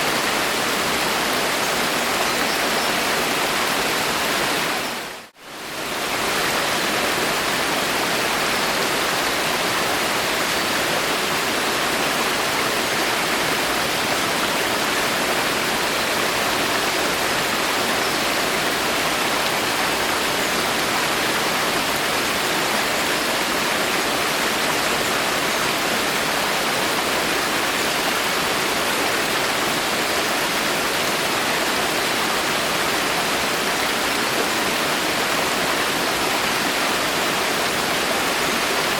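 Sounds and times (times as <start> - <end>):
dense rain in forest: 0.0 - 38.9.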